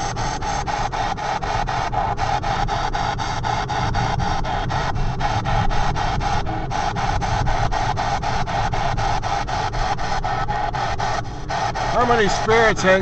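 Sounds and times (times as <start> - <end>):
moving car rumble: 0.0 - 13.0
radio static bursts: 0.0 - 13.0.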